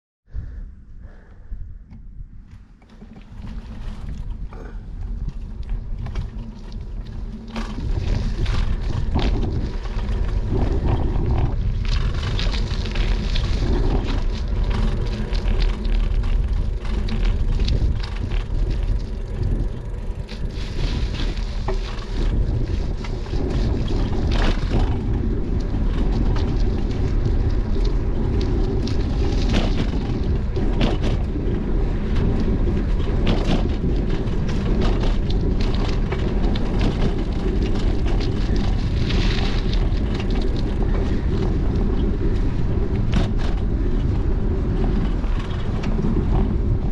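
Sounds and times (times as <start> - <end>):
wind rushing over microphone: 0.3 - 46.9
bicycle clicks and rattles: 2.5 - 46.9
tyre rumble on pavement: 2.9 - 46.9.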